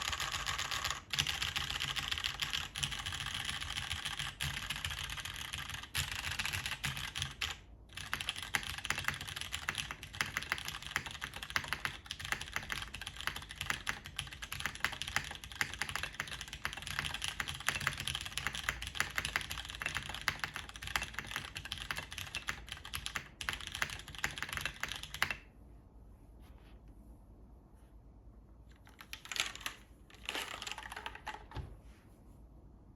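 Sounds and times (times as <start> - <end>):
mechanical keyboard typing: 0.0 - 25.5, 28.7 - 31.6.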